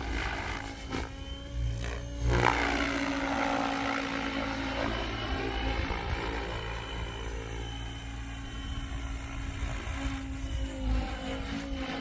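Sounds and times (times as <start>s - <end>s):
rc helicopter rotor whirring: 0.0s - 12.0s.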